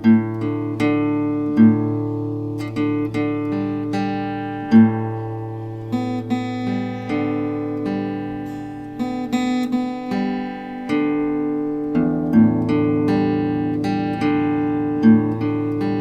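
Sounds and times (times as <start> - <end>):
acoustic guitar plucked chords: 0.0 - 16.0.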